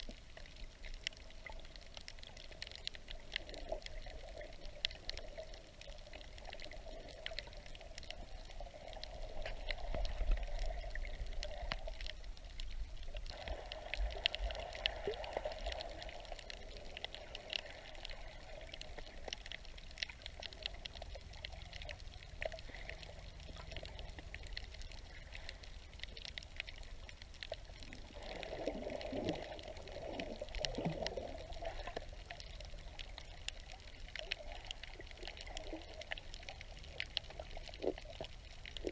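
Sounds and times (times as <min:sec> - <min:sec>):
crackle of tiny clicks: 0:00.0 - 0:38.9
muffled underwater water movement: 0:00.0 - 0:38.9.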